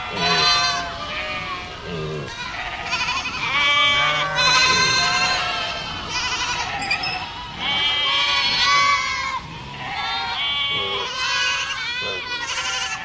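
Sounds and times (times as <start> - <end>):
sheep bleating: 0.0 - 13.0.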